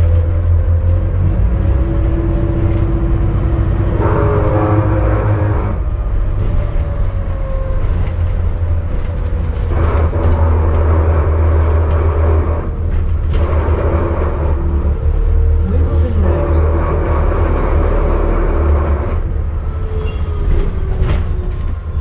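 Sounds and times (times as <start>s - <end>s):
bus drivetrain drone: 0.0s - 22.0s
road and running noise: 0.0s - 22.0s.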